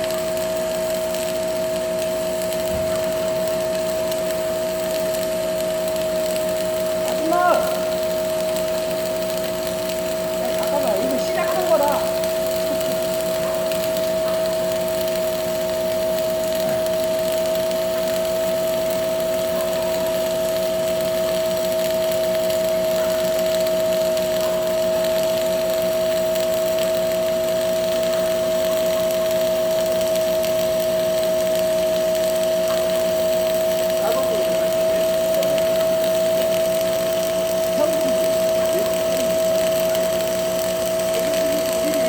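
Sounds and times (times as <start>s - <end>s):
machine humming: 0.0s - 42.0s.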